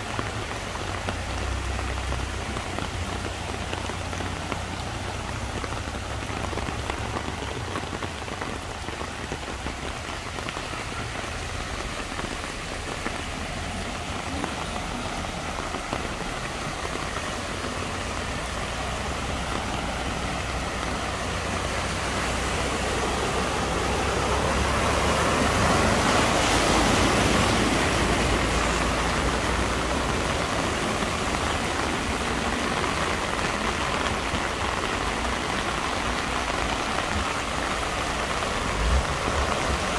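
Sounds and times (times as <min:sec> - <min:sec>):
cars swishing through floodwater: 0:00.0 - 0:39.9
heavy rain on flooded road: 0:00.0 - 0:39.9.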